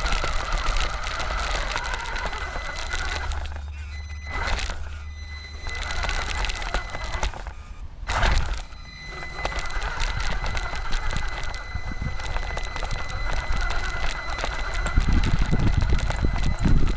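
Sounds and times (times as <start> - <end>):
toy car motor whine: 0.0 - 16.9
tyres rattling and crunching: 0.0 - 16.9.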